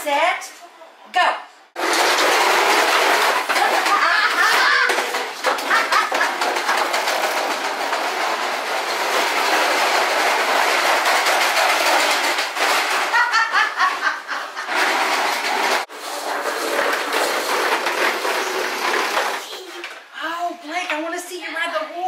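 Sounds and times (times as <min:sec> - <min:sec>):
toy mower clattering on floor: 0:01.8 - 0:20.0.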